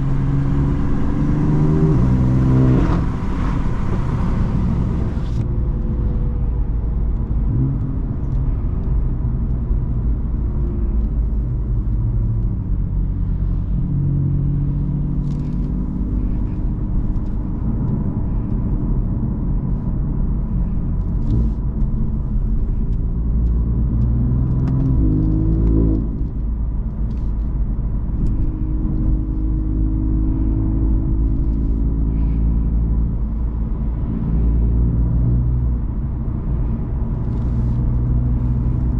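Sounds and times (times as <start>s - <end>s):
car engine while driving: 0.0s - 38.9s.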